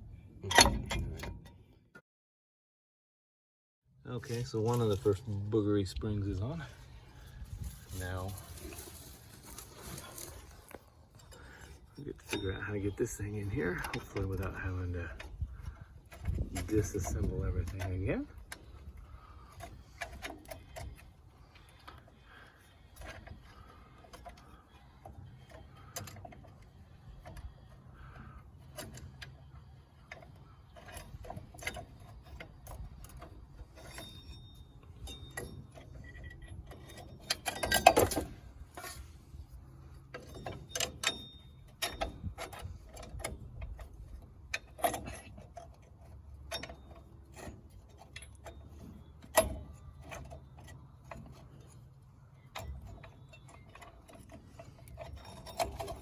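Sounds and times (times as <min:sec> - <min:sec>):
low steady hum: 0:03.9 - 0:56.0
metallic clicks and scrapes: 0:04.2 - 0:05.5, 0:06.2 - 0:56.0
metal clatter: 0:07.6 - 0:56.0.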